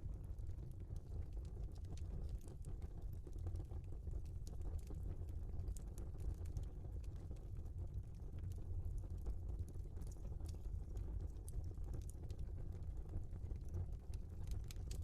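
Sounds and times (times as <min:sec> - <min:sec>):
logs crackling in fireplace: 0:00.0 - 0:15.0
low fire rumble: 0:00.0 - 0:15.0.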